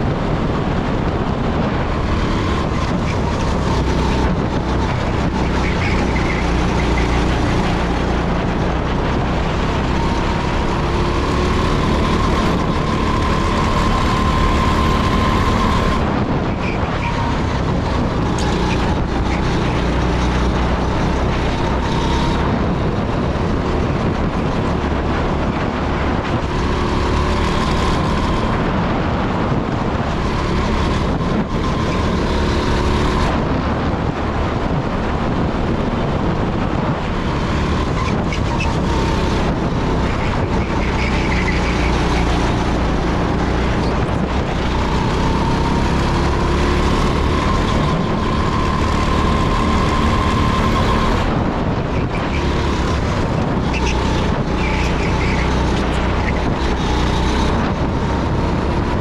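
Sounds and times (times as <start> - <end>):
go-kart engine running hard: 0.0 - 59.0
wind rushing over camera: 0.0 - 59.0.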